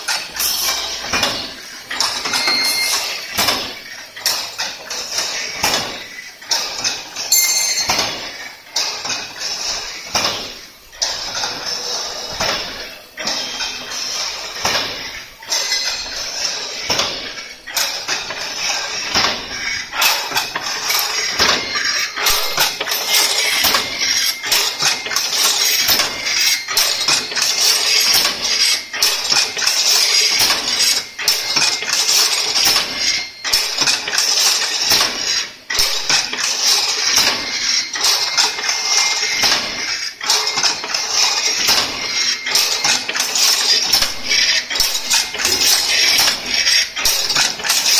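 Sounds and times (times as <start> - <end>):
weaving machine metallic clatter: 0.0 - 47.9.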